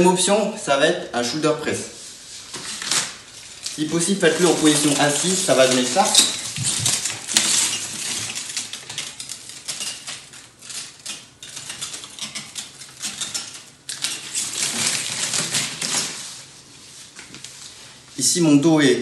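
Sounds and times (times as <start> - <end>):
plastic shrink-wrap crinkling: 2.0 - 18.3.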